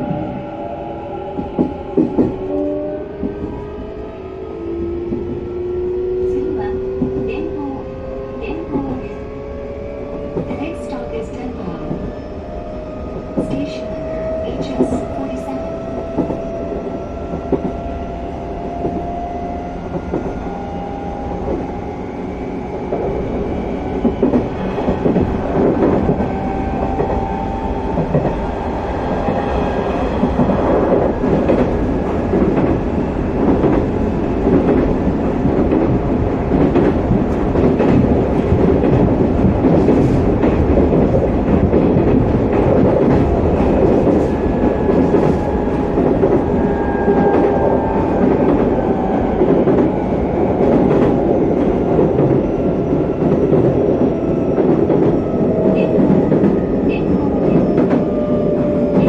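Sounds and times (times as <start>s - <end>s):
wheel and rail rumble: 0.0s - 59.0s.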